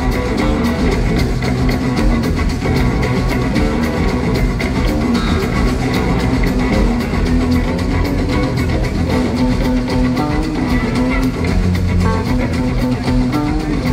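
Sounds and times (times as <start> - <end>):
drum kit beat: 0.0 - 13.9
electric bass guitar solo: 0.0 - 13.9.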